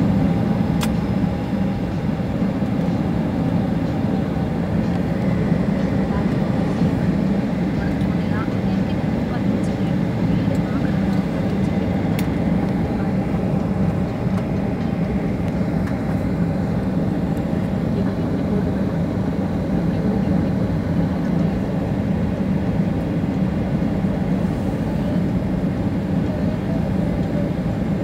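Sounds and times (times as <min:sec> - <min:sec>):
jet airliner rumbling on runway: 0:00.0 - 0:28.0.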